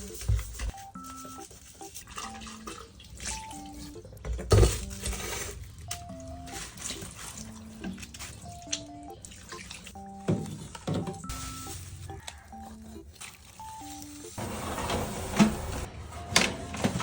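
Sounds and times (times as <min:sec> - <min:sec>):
background music melody: 0:00.0 - 0:17.0.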